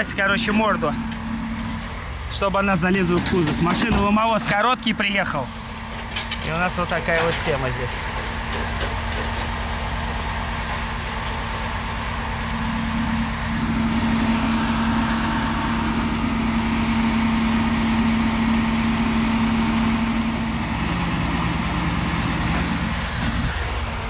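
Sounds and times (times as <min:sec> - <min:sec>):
truck engine hum: 0:00.0 - 0:24.0.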